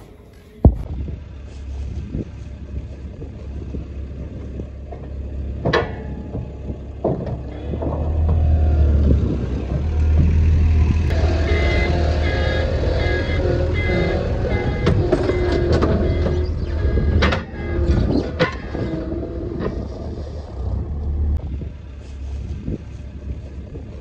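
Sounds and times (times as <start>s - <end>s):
diesel loader engine running: 0.0s - 24.0s.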